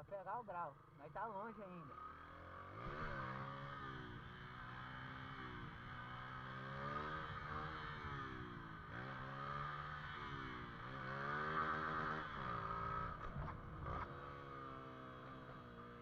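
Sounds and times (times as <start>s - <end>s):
motorcycle engine revving: 1.8s - 16.0s.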